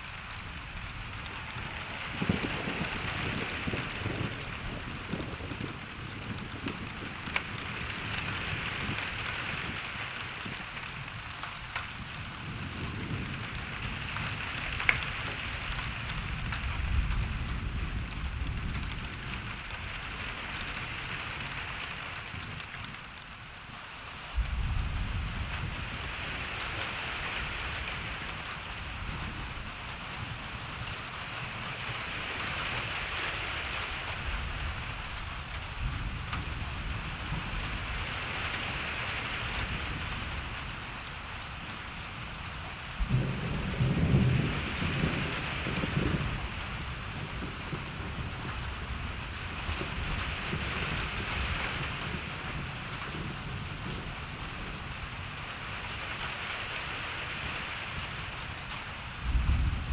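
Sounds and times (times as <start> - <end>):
thunder rumble: 0.0 - 23.2, 24.3 - 59.9
steady rain falling: 0.0 - 59.9.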